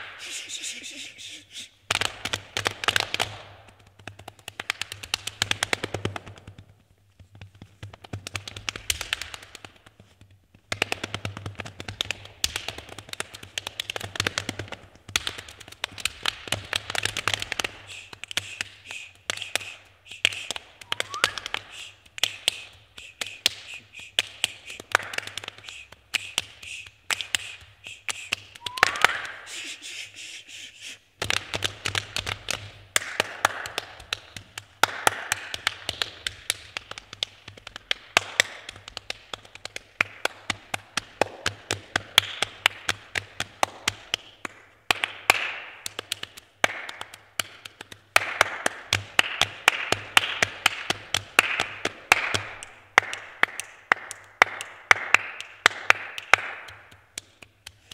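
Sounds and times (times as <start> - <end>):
hand claps and body slaps: 0.0 - 0.8, 1.5 - 30.3, 31.2 - 57.9.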